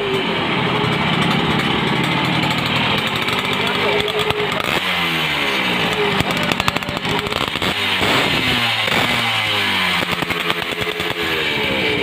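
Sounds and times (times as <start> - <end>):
two-stroke motorcycle revving: 0.0 - 12.0.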